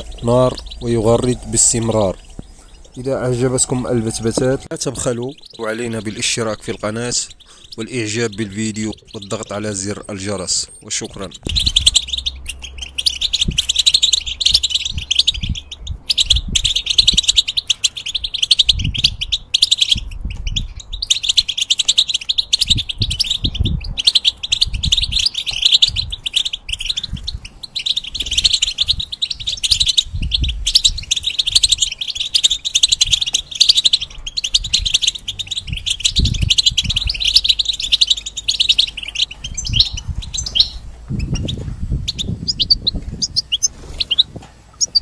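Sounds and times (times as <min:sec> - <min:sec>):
bird twittering song: 0:00.0 - 0:45.0.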